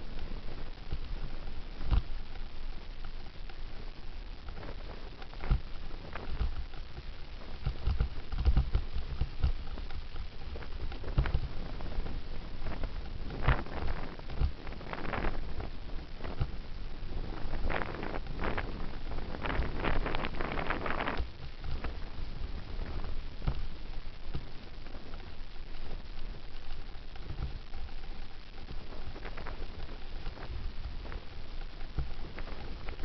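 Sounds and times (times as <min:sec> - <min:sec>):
bicycle rattles and knocks: 0:00.0 - 0:33.0
wind rumbling on microphone: 0:00.0 - 0:33.0.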